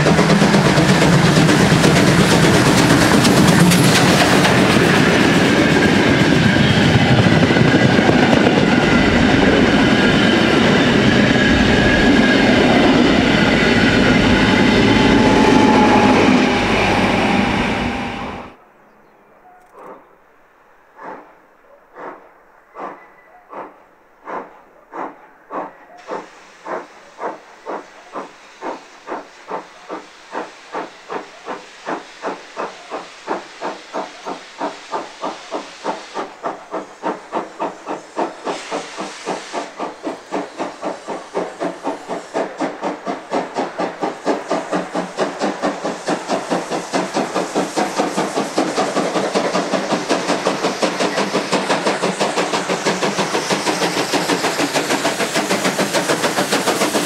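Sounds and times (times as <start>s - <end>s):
steady steam hiss: 0.0s - 18.6s, 20.5s - 57.0s
steam locomotive chuffing: 0.0s - 18.6s, 22.0s - 57.0s.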